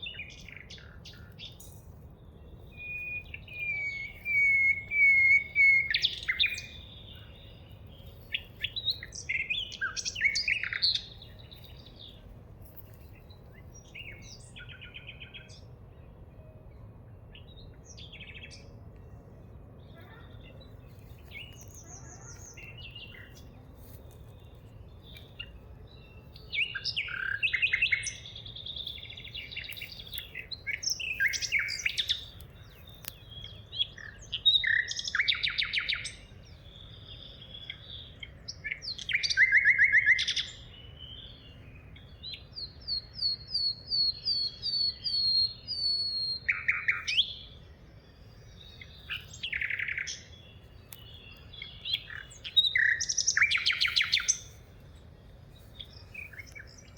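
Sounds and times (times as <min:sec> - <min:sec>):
low steady background hum: 0:00.0 - 0:56.9
songbirds singing: 0:00.0 - 0:56.9.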